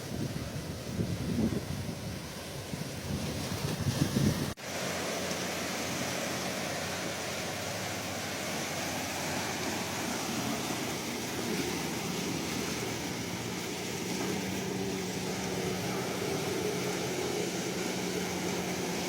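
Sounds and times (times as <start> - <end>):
sea waves washing on shore: 0.0 - 19.0.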